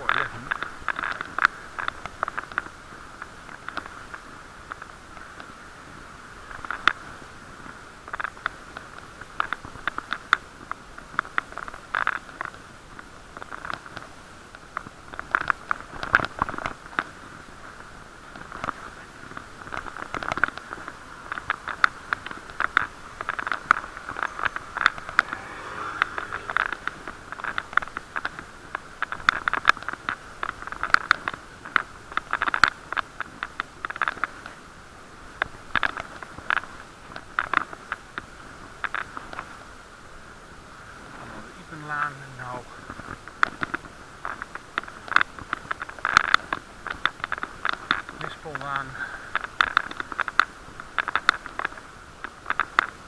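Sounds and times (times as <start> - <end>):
muffled hiss: 0.0 - 53.0
bicycle clicks and rattles: 0.1 - 5.9, 6.5 - 39.7, 42.8 - 48.4, 49.3 - 53.0.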